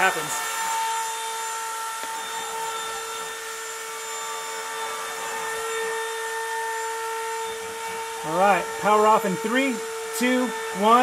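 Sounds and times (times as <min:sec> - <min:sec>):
cnc spindle whine: 0:00.0 - 0:11.0.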